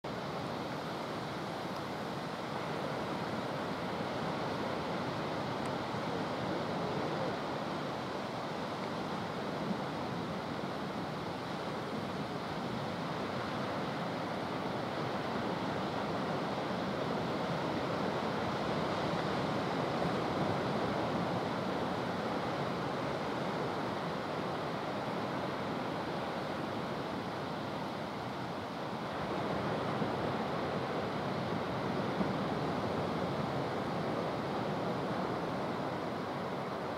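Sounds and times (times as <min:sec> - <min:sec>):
waves breaking on beach: 0:00.1 - 0:36.9.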